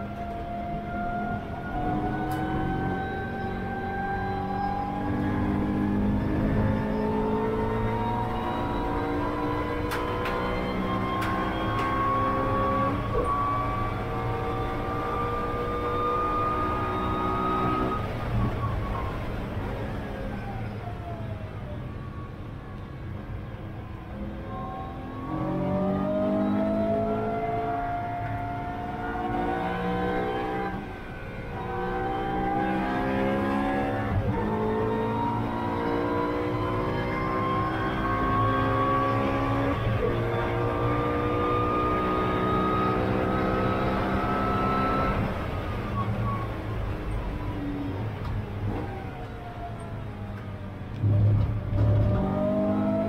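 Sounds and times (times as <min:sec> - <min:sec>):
race car engine accelerating: 0:00.0 - 0:21.3, 0:24.2 - 0:53.0.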